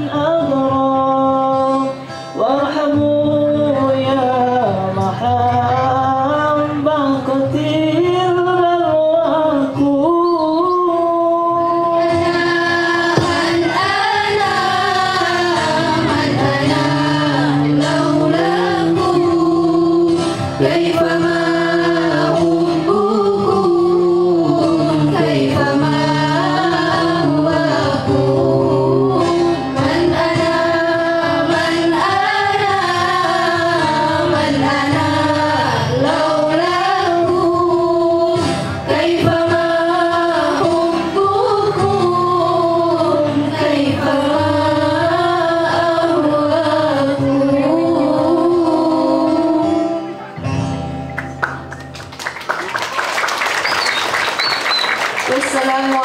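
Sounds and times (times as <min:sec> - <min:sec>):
group singing devotional song: 0:00.0 - 0:50.2
musical accompaniment: 0:00.0 - 0:55.4.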